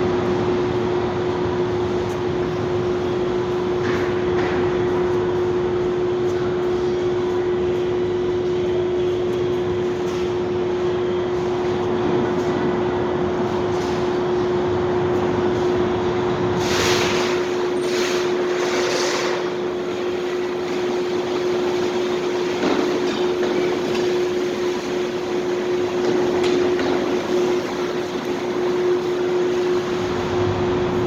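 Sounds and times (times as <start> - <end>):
parking garage hum: 0.0 - 31.0.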